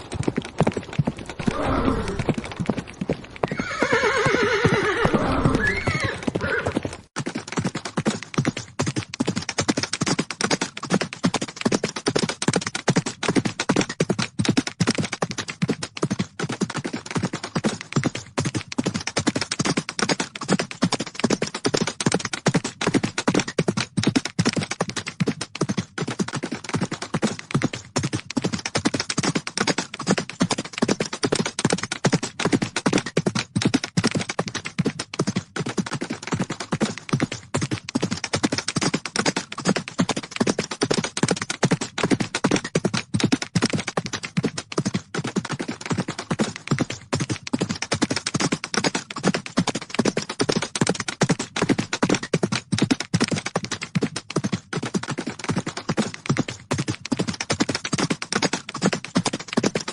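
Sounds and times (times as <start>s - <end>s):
horses galloping hoofbeats: 0.0s - 59.9s.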